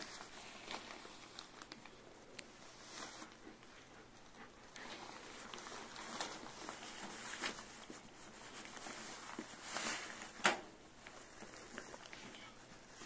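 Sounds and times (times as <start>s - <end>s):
newspaper rustling and crackling: 0.0s - 13.0s.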